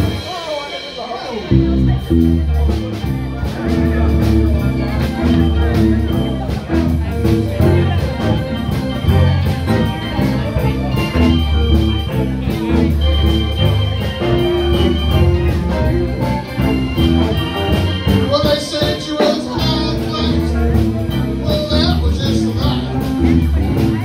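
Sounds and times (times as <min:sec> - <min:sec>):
bass guitar: 0:00.0 - 0:00.7, 0:01.3 - 0:24.0
drums keeping a steady beat: 0:00.0 - 0:24.0
electric guitars: 0:00.0 - 0:24.0
organ holding long notes: 0:00.0 - 0:24.0.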